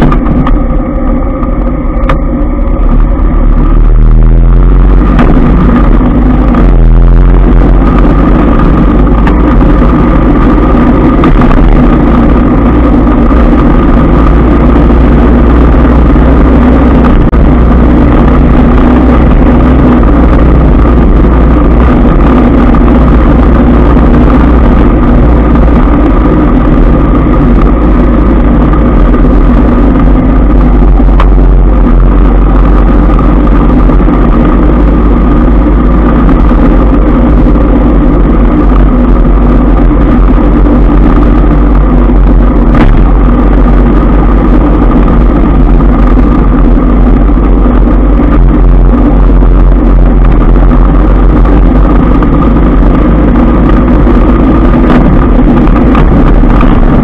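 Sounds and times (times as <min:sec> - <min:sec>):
motorbike engine: 0:00.0 - 0:57.0
steady hum: 0:00.0 - 0:57.0
wind rumble on microphone: 0:00.0 - 0:57.0.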